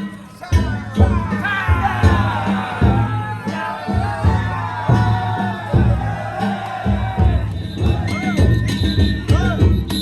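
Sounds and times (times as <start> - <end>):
drum beats: 0.0 - 10.0.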